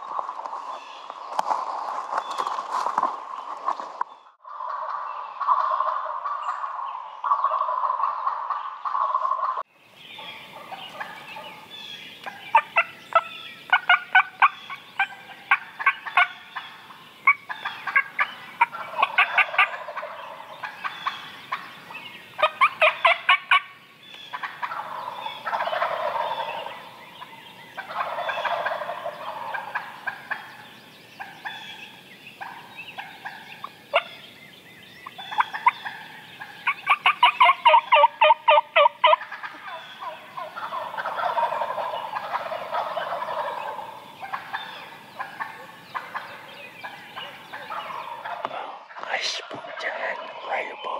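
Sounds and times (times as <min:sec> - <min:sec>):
turkeys gobbling: 0:04.5 - 0:11.6, 0:12.2 - 0:21.7, 0:22.4 - 0:31.7, 0:32.4 - 0:34.2, 0:35.0 - 0:50.9.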